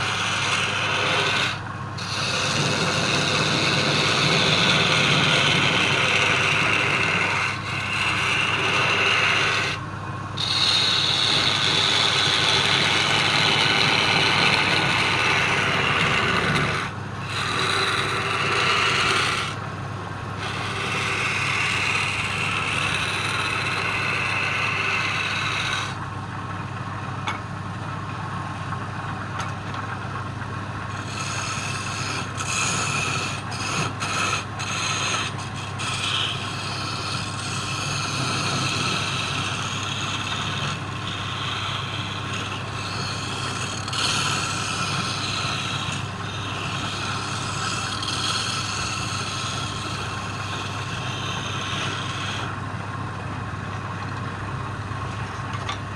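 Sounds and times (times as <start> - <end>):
wood scraping on lathe: 0.0 - 26.0, 30.8 - 52.9
lathe motor hum: 0.0 - 27.4, 28.7 - 55.9.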